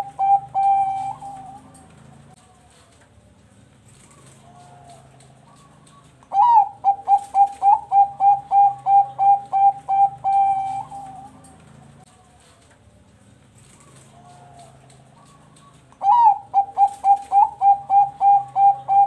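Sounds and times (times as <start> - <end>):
dove cooing song: 0.0 - 3.0, 3.9 - 12.6, 13.6 - 19.0.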